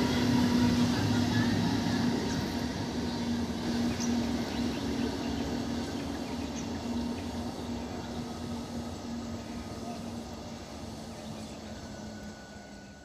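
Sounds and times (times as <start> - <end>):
electric train rumbling on track: 0.0 - 13.0.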